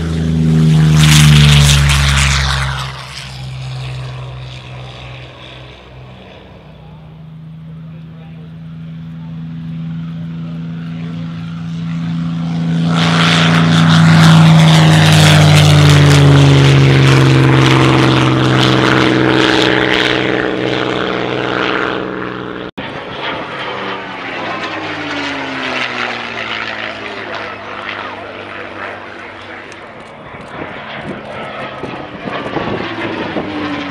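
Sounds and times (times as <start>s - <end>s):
propeller plane flyby: 0.0s - 33.9s
second propeller plane passing: 0.0s - 33.9s.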